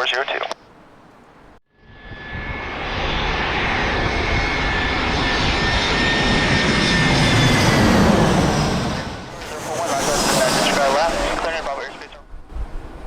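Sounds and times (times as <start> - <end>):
airliner engines roaring: 0.0 - 13.0.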